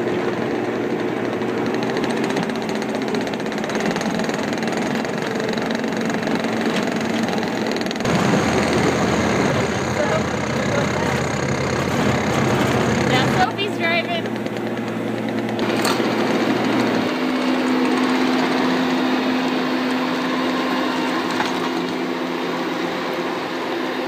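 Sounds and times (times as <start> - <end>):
skid steer engine running: 0.0 - 24.0.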